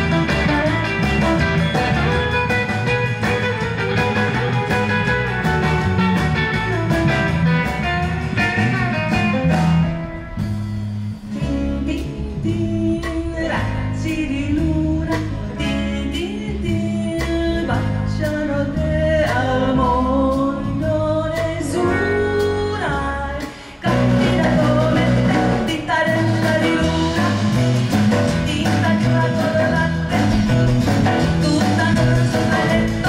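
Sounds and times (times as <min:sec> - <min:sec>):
bass guitar: 0:00.0 - 0:33.0
drums: 0:00.0 - 0:33.0
electric guitar melody: 0:00.0 - 0:33.0.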